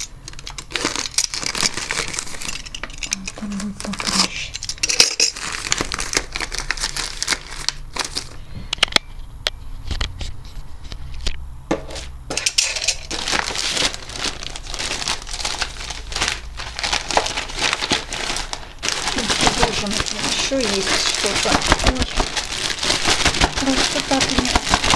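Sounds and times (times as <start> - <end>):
plastic bags crinkling: 0.0 - 8.5, 11.9 - 24.9.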